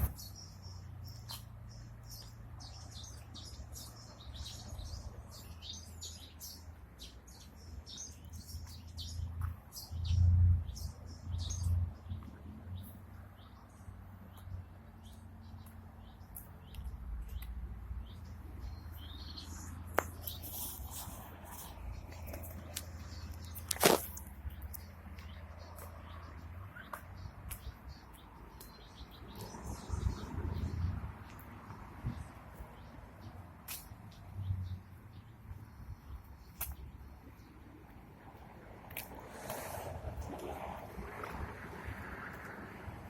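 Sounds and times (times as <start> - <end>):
small birds chirping: 0.0 - 40.5.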